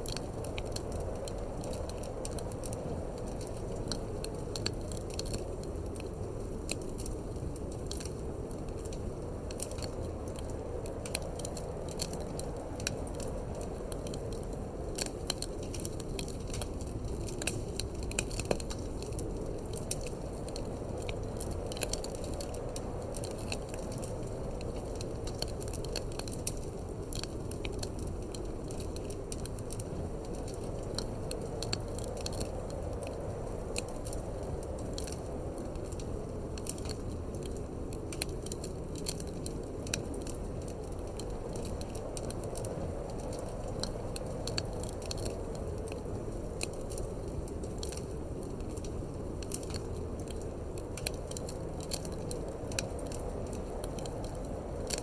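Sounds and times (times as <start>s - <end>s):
sharp pops and snaps of fire: 0.0s - 55.0s
steady low wind: 0.0s - 55.0s
wood fire crackling: 0.0s - 55.0s.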